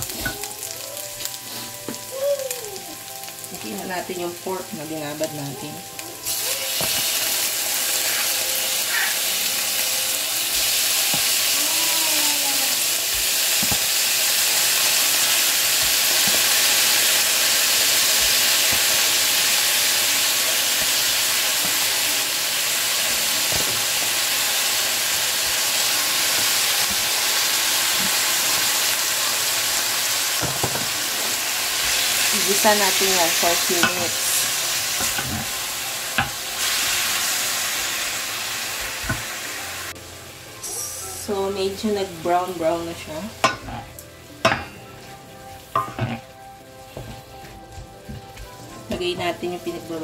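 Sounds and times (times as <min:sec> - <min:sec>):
meat sizzling in a frying pan: 0:00.0 - 0:50.0.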